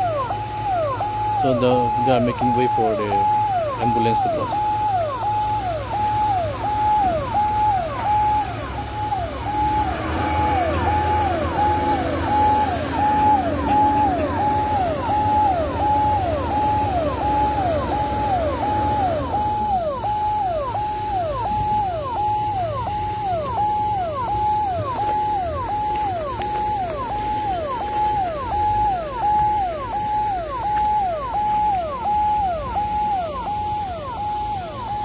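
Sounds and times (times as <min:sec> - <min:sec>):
ambulance siren: 0:00.0 - 0:35.0
low engine rumble: 0:00.0 - 0:35.0.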